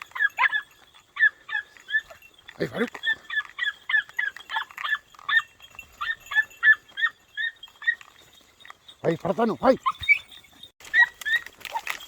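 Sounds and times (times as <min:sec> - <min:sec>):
puppies yelping: 0:00.0 - 0:09.0, 0:09.7 - 0:12.0.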